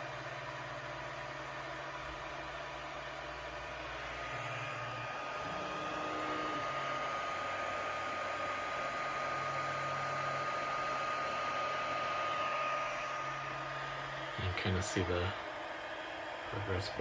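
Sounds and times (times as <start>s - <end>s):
cooling fans whirring: 0.0s - 17.0s
stepper motors humming: 0.0s - 17.0s.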